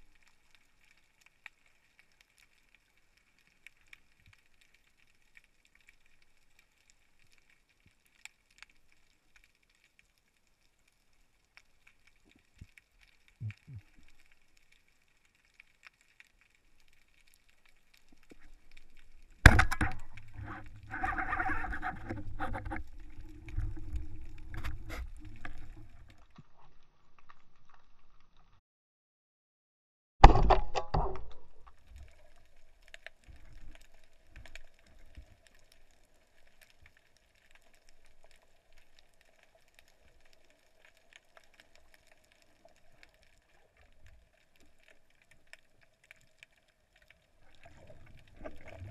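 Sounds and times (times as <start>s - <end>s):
faint underwater clicks: 0.0s - 28.6s, 30.5s - 48.9s.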